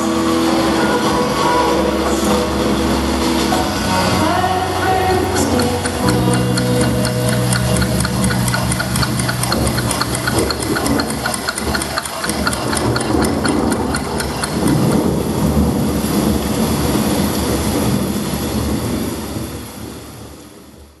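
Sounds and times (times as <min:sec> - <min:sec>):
low rumbling drone: 0:00.0 - 0:19.6.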